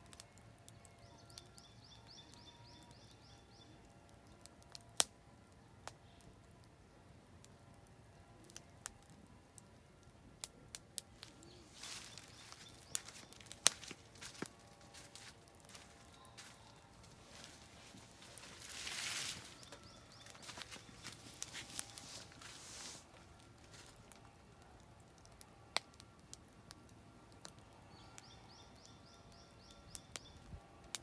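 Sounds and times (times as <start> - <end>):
campfire crackling and popping: 3.8 - 31.0.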